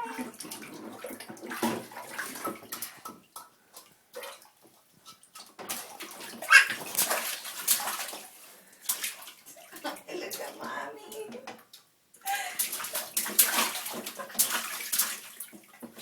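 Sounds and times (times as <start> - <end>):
child splashing water: 0.0 - 16.0.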